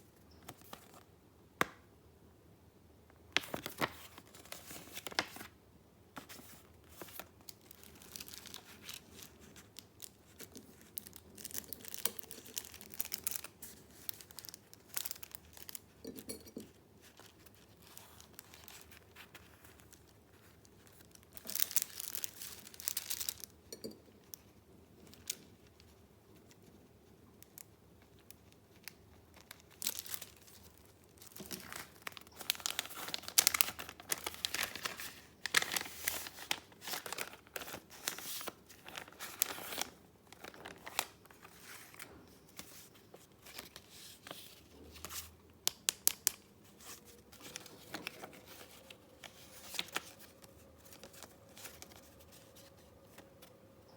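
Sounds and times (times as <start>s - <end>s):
paper rustling and crinkling: 0.4s - 1.1s, 3.4s - 5.6s, 6.2s - 16.1s, 17.0s - 23.5s, 25.1s - 53.6s.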